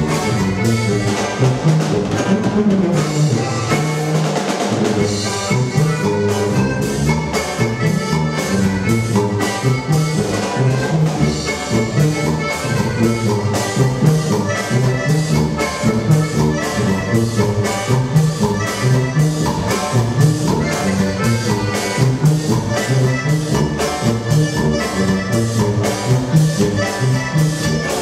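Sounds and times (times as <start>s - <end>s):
accordion: 0.0s - 28.0s
drum kit beat: 0.0s - 28.0s
guitar: 0.0s - 28.0s
sousaphone bass line: 0.0s - 28.0s.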